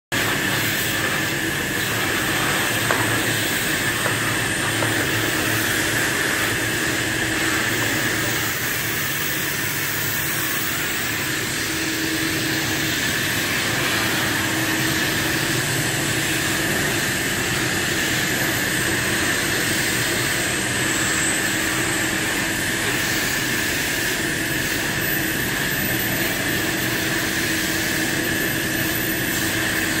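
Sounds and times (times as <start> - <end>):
industrial vacuum cleaner running: 0.1 - 30.0.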